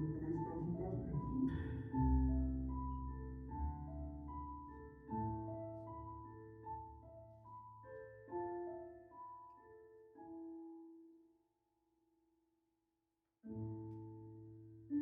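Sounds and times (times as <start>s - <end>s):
slow piano music: 0.0s - 11.4s, 13.4s - 15.0s.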